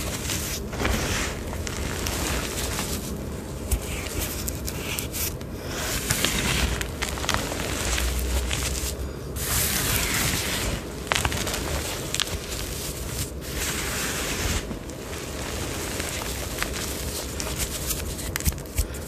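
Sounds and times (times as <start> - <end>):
hands crushing powdered chalk: 0.0 - 19.0.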